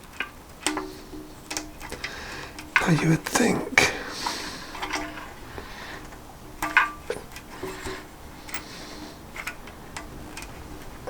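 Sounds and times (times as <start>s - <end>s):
small metal hardware clicking: 0.0s - 11.0s.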